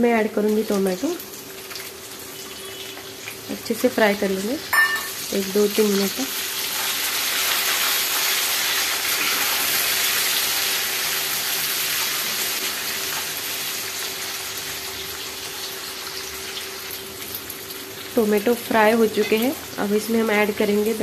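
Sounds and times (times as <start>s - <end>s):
tomatoes sizzling in hot oil: 0.0s - 21.0s.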